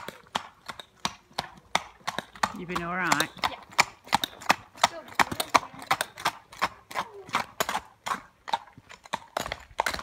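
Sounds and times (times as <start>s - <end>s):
horse hooves on tarmac: 0.0s - 10.0s.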